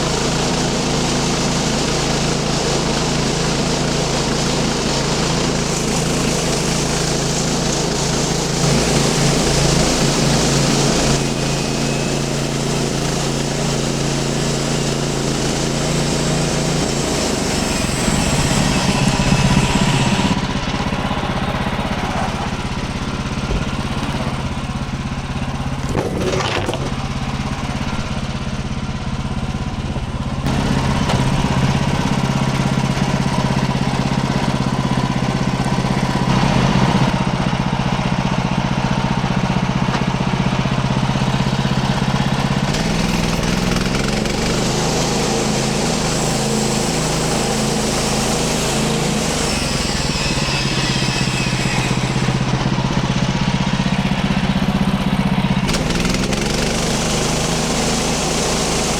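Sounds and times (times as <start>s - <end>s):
bandsaw blade cutting log: 0.0s - 37.1s, 41.2s - 58.9s
small gasoline engine running: 0.0s - 58.9s.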